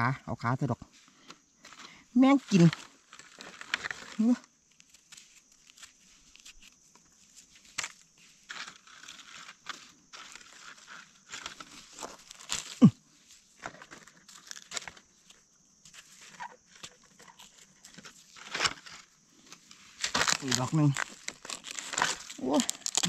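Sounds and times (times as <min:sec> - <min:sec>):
earth scraping: 0:00.7 - 0:04.5, 0:05.9 - 0:23.0
dry leaves rustling: 0:01.7 - 0:23.0.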